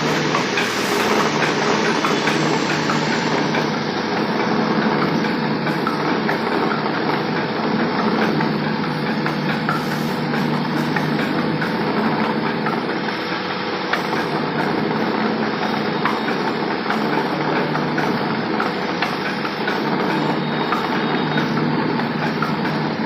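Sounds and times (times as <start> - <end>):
grain mill mechanical whir: 0.0 - 23.0.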